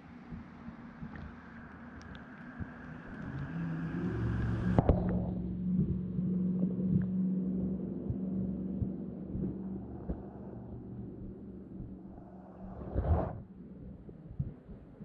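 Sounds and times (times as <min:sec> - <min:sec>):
steady low hum: 0:00.0 - 0:15.0
muffled underwater water rumble: 0:00.1 - 0:15.0.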